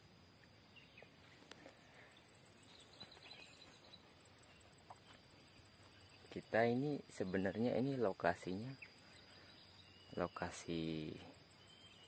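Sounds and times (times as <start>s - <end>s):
faint chirps: 0.1s - 12.0s
pulsing insect trill: 1.9s - 12.0s.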